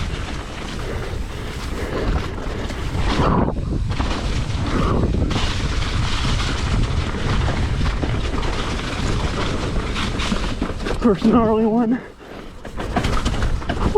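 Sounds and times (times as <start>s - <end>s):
mountain bike rattling on rocky trail: 0.0s - 13.9s
wind buffeting microphone: 0.0s - 13.9s.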